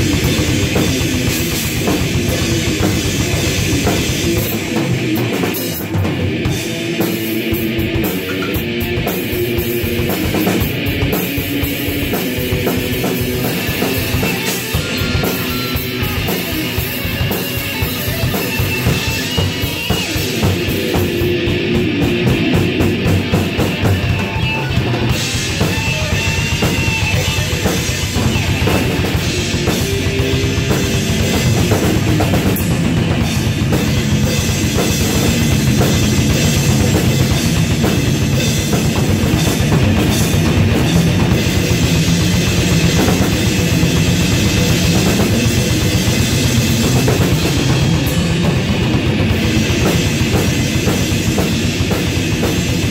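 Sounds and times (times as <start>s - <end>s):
drum kit drumming: 0.0s - 52.9s
electric guitar riffing: 0.0s - 52.9s.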